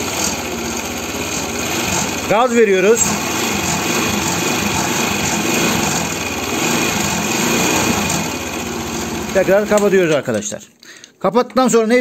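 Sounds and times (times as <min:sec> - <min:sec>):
scooter engine running: 0:00.0 - 0:10.2.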